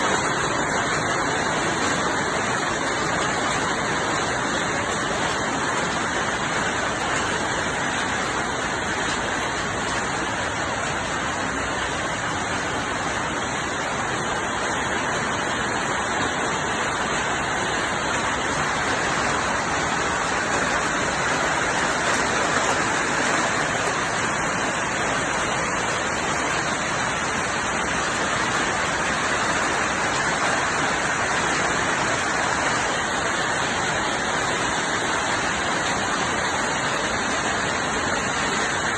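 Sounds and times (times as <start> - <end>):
hail and heavy rain: 0.0 - 38.9.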